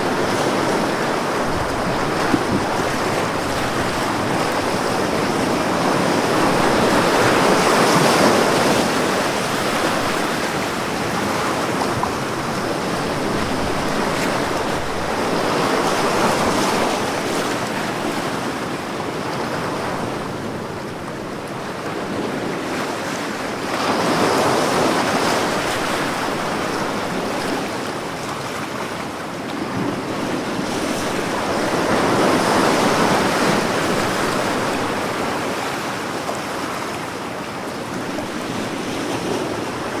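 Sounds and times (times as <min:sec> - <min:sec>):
ocean waves breaking on beach: 0:00.0 - 0:40.0.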